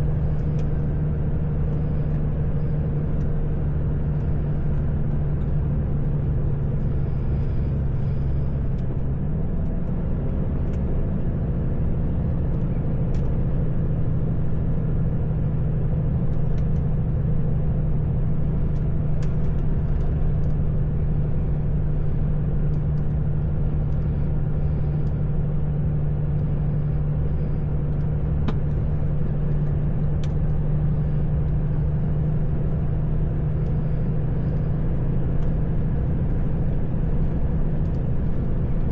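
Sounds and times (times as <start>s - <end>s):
road rumble: 0.0s - 38.9s
truck diesel engine running: 0.0s - 38.9s.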